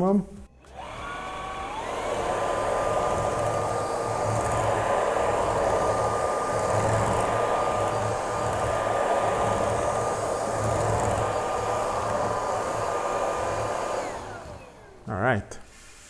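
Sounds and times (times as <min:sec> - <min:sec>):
vacuum cleaner motor whine: 0:00.6 - 0:16.0.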